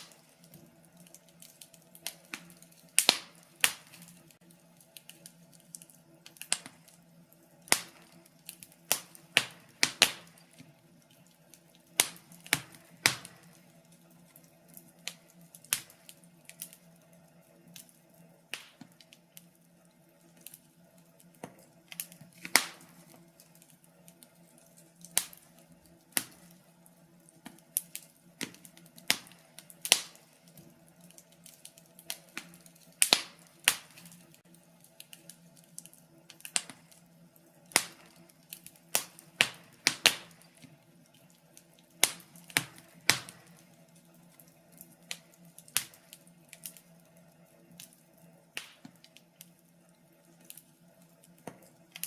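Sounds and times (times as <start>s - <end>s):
fire crackling and popping: 0.0s - 52.0s.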